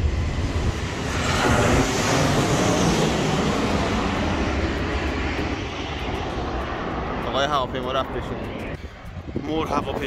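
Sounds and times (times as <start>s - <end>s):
airplane flying low overhead: 0.0s - 10.0s.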